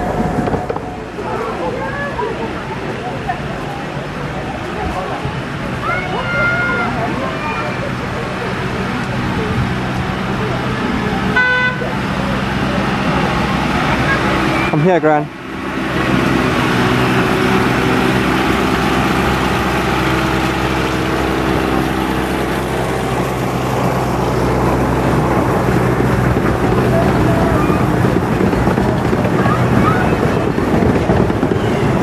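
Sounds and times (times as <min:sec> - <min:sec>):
carriages rumbling over track: 0:00.0 - 0:32.0
diesel locomotive engine droning: 0:00.0 - 0:32.0.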